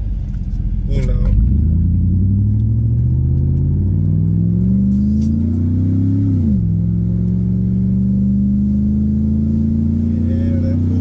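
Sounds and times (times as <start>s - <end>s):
truck engine accelerating: 0.0s - 11.0s.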